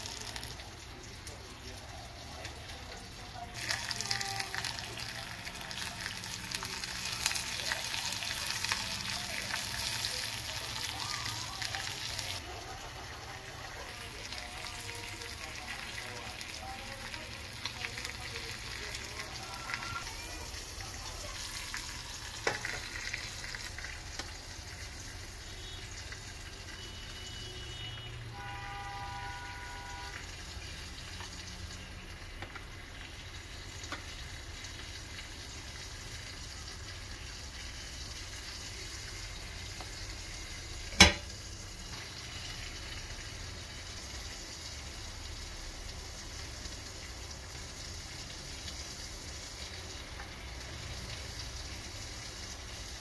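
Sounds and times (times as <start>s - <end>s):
shrimp frying in oil: 0.0s - 53.0s.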